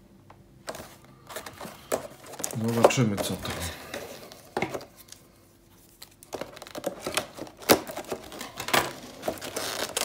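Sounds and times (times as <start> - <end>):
plastic bag crinkling: 0.7 - 5.2, 5.9 - 10.0.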